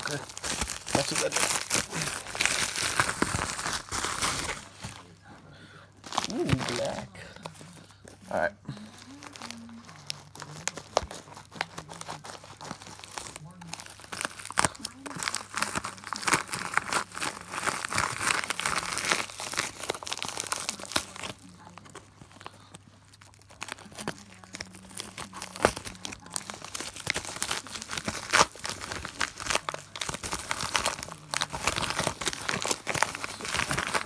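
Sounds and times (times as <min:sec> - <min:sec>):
plastic mailer bag crinkling: 0:00.0 - 0:05.2, 0:06.0 - 0:34.0.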